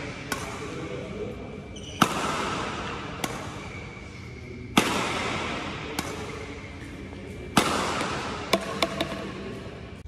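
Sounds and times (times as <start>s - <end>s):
faint distant racquet hit: 0.0s - 0.9s, 1.8s - 9.4s
racquet hitting shuttlecock: 0.0s - 0.9s, 1.7s - 9.6s.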